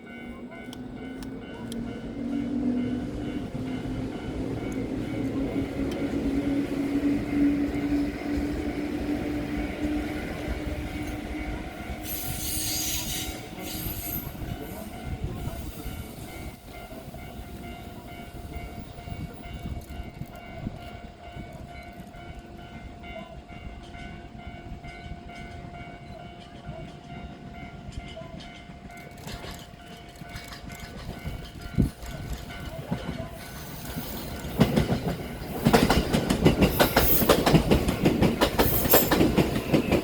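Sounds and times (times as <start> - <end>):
train rumble: 0.0 - 40.0.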